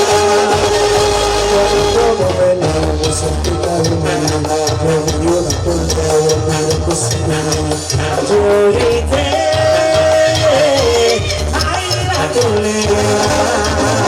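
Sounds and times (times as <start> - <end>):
instrumental cumbia band: 0.0 - 14.0
maracas: 0.0 - 14.0.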